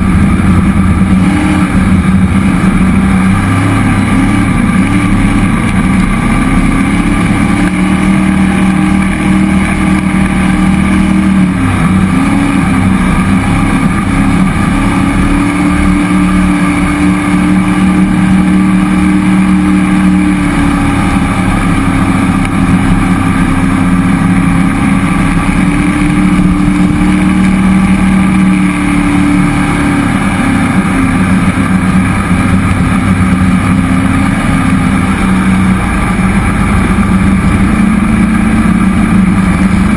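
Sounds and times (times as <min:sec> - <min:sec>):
boat engine exhaust: 0:00.0 - 0:39.9.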